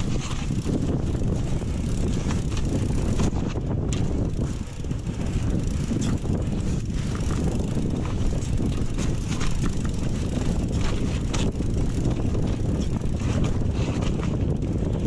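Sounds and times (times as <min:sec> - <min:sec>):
bike rolling over rough trail: 0:00.0 - 0:15.0
clicks and rattles from bike: 0:00.0 - 0:15.0
wind buffeting microphone: 0:00.0 - 0:15.0.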